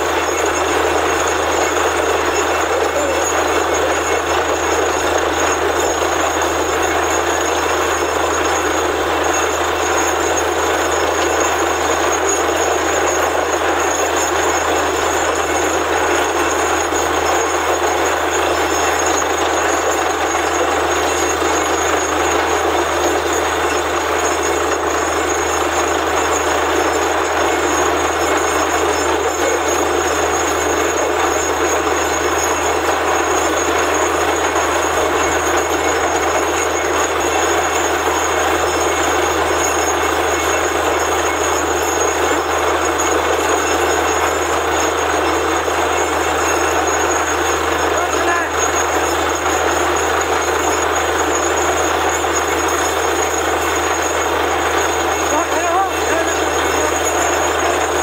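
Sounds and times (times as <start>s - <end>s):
drilling rig running: 0.0s - 58.0s.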